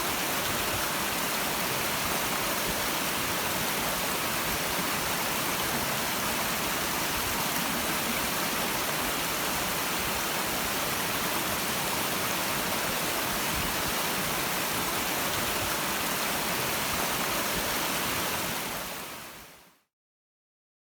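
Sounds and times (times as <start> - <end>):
stream flowing over rocks: 0.0 - 19.6.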